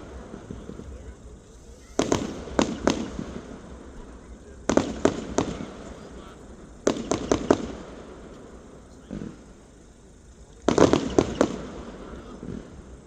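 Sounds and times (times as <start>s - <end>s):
firework dull bang: 0.0s - 9.6s, 10.6s - 13.0s
firework sharp cracks: 0.0s - 13.0s.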